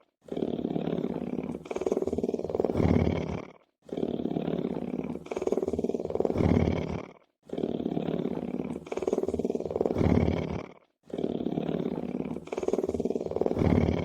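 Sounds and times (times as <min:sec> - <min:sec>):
lion purring: 0:00.0 - 0:14.0.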